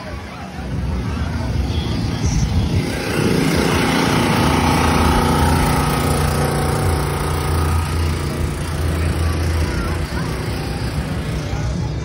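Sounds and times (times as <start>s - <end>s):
generator engine running: 0.9s - 12.0s
electric blower fan: 2.2s - 12.0s.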